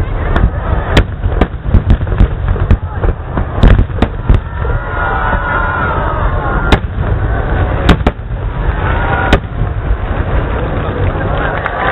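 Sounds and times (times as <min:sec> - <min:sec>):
fireworks bangs: 0:00.0 - 0:11.9
low rumble: 0:00.0 - 0:11.9.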